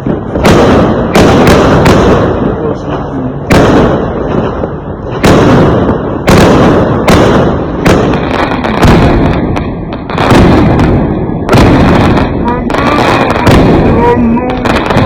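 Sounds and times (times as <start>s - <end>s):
fireworks exploding: 0.0s - 15.0s.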